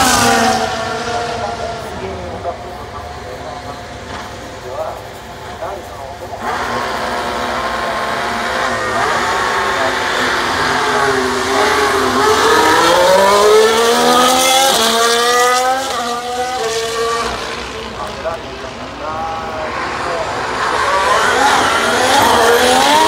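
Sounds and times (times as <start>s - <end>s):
racing car engines passing: 0.0s - 23.0s.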